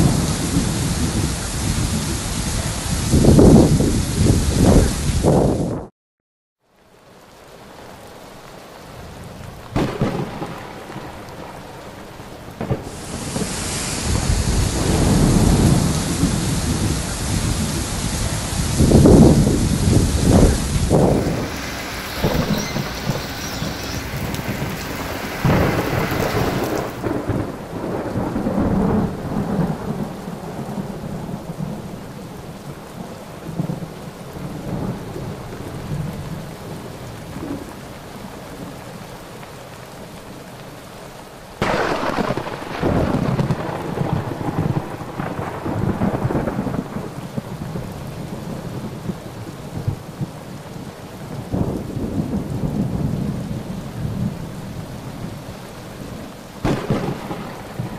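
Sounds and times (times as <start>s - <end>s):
heavy rain pouring: 0.0s - 5.9s, 6.6s - 57.9s
thunder rumbling: 0.0s - 5.9s, 9.0s - 37.8s, 41.6s - 50.6s, 51.3s - 57.9s.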